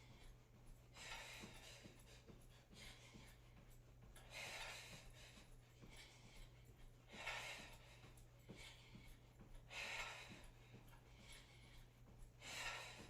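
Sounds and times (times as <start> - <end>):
person breathing heavily: 0.0 - 13.0.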